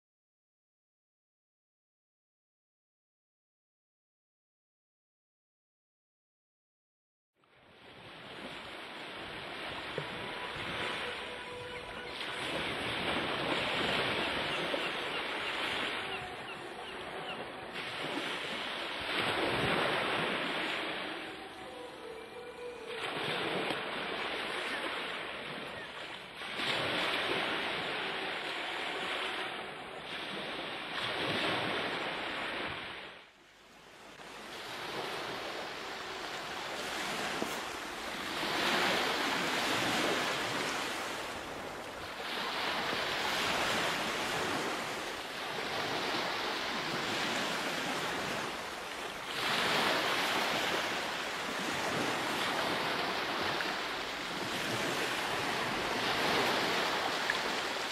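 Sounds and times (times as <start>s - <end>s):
ocean waves washing in: 7.6s - 57.9s.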